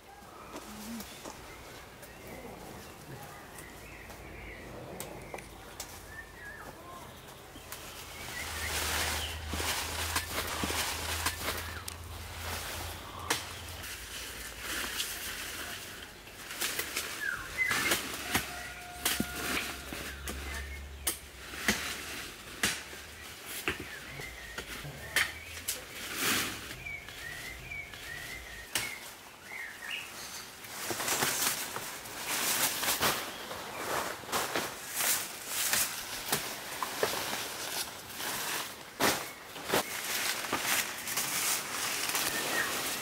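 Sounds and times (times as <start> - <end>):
small birds chirping: 0.0 - 34.1, 35.0 - 43.0
leafy branches rustling: 0.0 - 43.0
twigs cracking: 0.4 - 30.0, 30.6 - 43.0.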